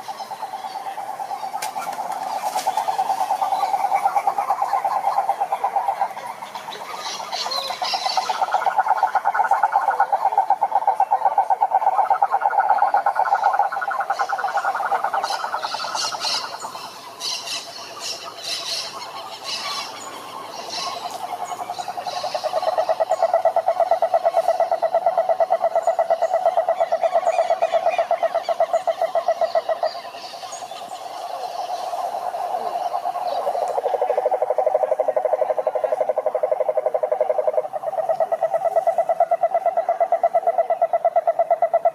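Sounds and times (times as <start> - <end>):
frogs trilling: 0.0 - 41.9.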